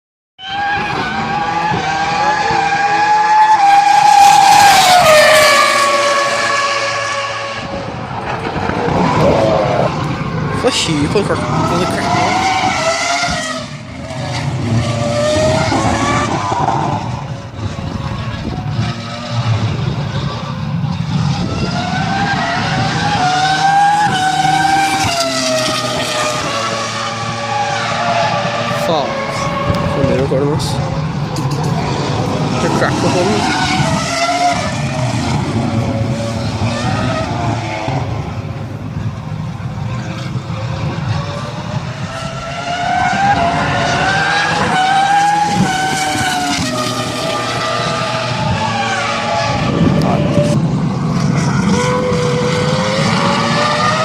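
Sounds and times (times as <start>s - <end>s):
racing car engine at high revs: 0.4s - 54.0s.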